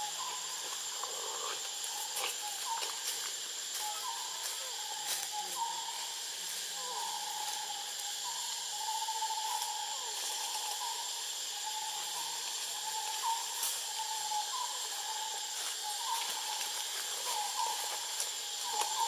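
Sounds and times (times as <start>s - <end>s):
insects whining: 0.0s - 19.0s
steady high hiss: 0.0s - 19.0s.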